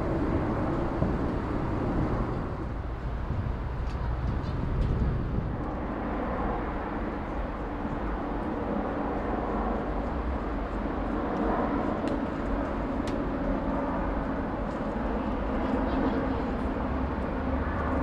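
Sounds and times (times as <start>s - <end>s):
jet airliner engines rumbling: 0.0s - 18.0s.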